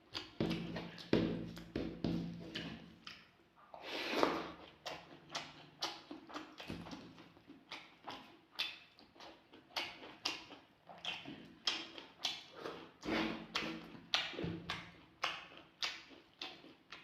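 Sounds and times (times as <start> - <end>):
wet chewing and lip-smacking: 0.0 - 17.0.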